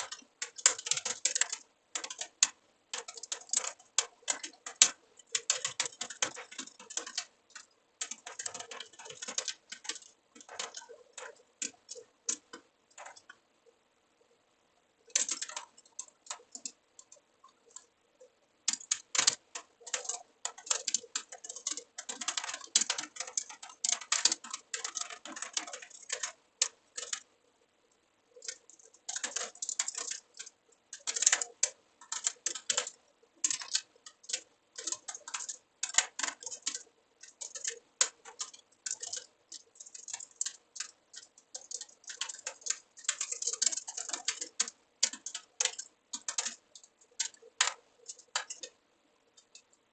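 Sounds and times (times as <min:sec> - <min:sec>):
typing on keyboard: 0:00.0 - 0:13.4, 0:15.0 - 0:27.4, 0:28.3 - 0:49.8.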